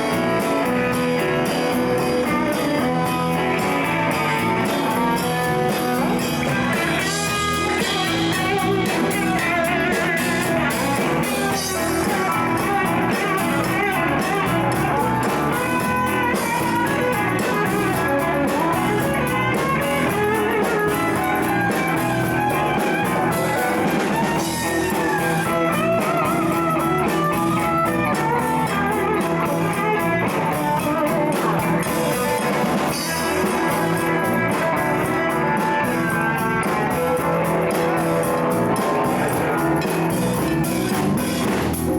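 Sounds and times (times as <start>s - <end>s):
band playing: 0.0s - 41.9s
guitar playing: 0.0s - 41.9s.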